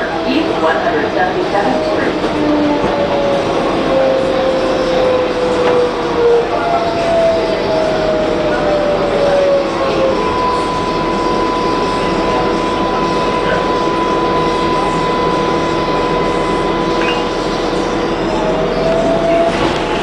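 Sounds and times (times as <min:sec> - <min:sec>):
train wheel and rail noise: 0:00.0 - 0:20.0.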